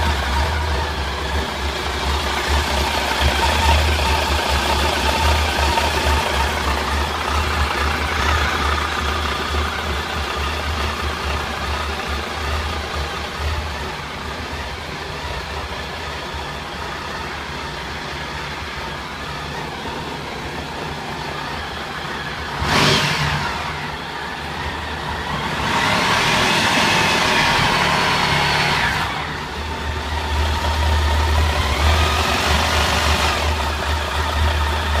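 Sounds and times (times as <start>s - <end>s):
engine revving: 0.0s - 35.0s.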